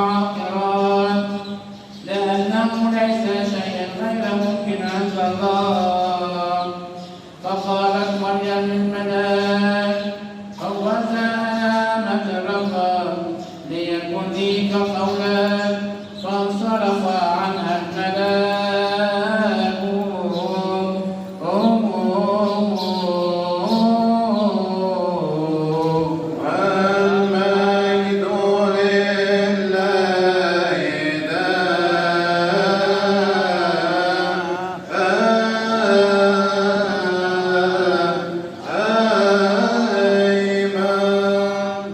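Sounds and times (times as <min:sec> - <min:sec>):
man chanting a liturgical melody: 0:00.0 - 0:41.9.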